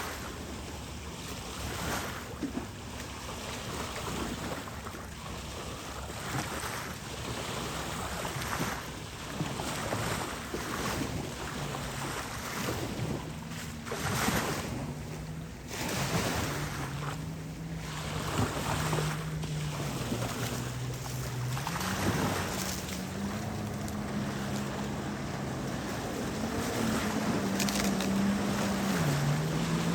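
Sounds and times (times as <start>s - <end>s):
boat motor hum: 0.0s - 29.9s
waves washing: 0.0s - 29.9s
wind gusts on microphone: 5.7s - 29.9s.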